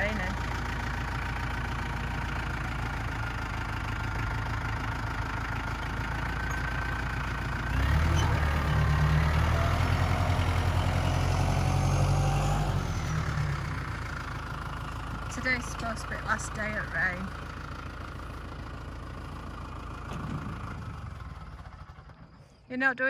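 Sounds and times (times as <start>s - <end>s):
tractor diesel engine: 0.0s - 23.0s.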